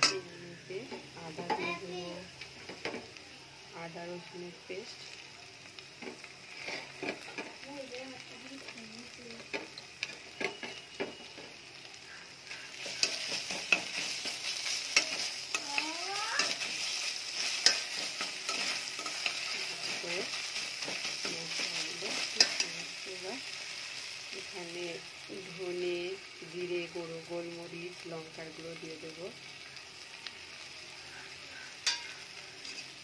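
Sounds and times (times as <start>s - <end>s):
onions sizzling in hot oil: 0.0s - 33.0s.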